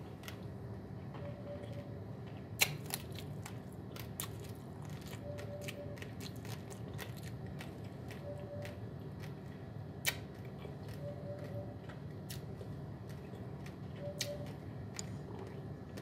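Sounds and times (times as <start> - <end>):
chewing dry rice crunching: 0.0 - 16.0.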